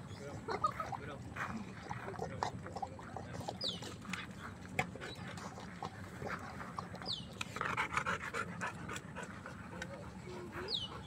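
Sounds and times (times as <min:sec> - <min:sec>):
dog panting: 0:00.3 - 0:11.0.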